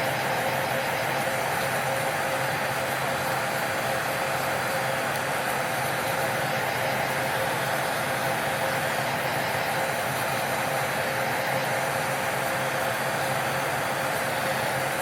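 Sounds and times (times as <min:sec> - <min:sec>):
nail-care machine whirring: 0:00.0 - 0:15.0.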